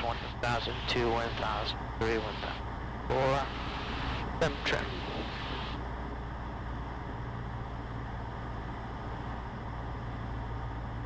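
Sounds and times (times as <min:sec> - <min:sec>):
airplane engine and propeller droning: 0:00.0 - 0:11.0.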